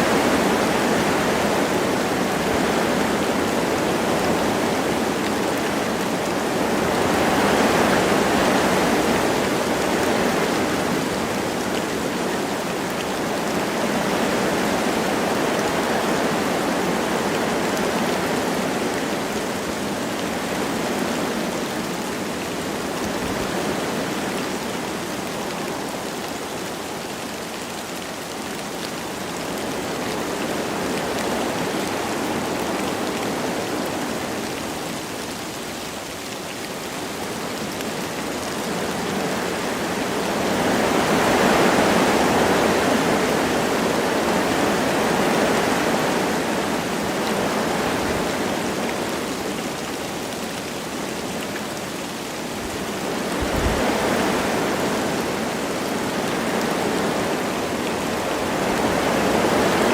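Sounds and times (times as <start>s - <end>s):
light rain falling: 0.0s - 59.9s
wind through forest trees: 0.0s - 59.9s.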